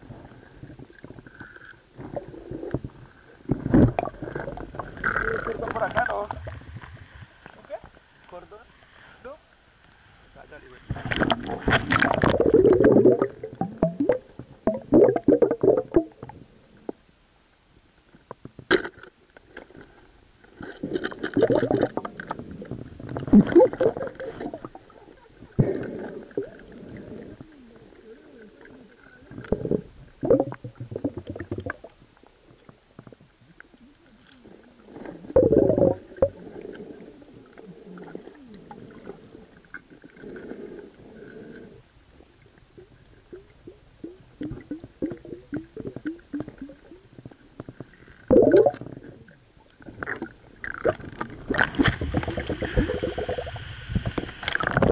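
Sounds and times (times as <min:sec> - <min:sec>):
underwater gurgling and bubbling: 0:00.0 - 0:07.3, 0:10.9 - 0:16.9, 0:20.6 - 0:54.9.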